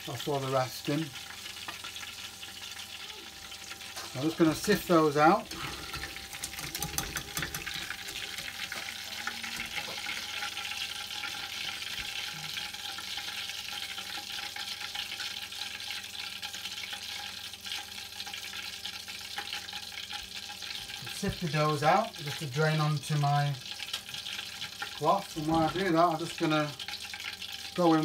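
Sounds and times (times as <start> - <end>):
hot oil bubbling and sizzling: 0.0 - 28.0.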